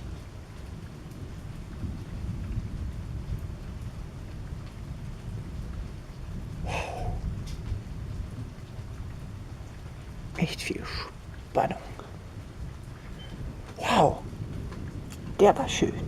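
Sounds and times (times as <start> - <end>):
low rumble of thunder: 0.0 - 16.0
rain falling: 0.0 - 16.0.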